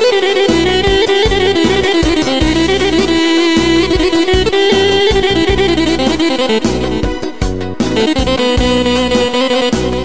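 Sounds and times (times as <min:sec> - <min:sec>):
bass and drum backing: 0:00.0 - 0:10.0
sampled saxophone long note: 0:00.0 - 0:10.0.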